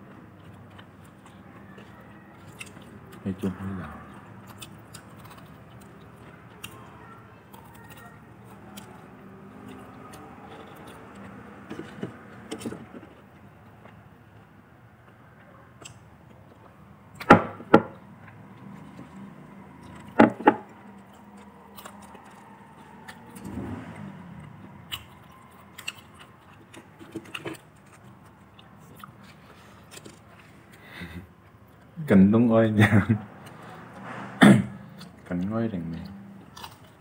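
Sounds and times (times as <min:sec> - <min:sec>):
chewing and mouth sounds: 0:00.0 - 0:17.2, 0:17.9 - 0:32.0, 0:35.9 - 0:37.0.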